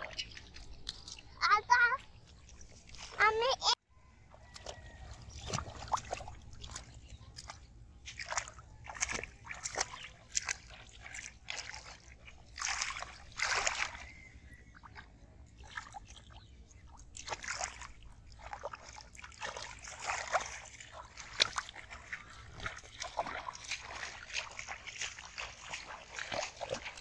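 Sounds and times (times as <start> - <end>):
muddy water sloshing and splashing: 0.0 - 27.0.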